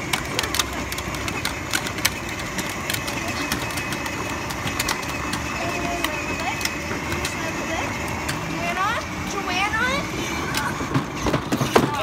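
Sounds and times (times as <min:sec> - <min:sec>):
plastic wheels crackling on grit: 0:00.0 - 0:12.0
toy car motors running: 0:00.0 - 0:12.0.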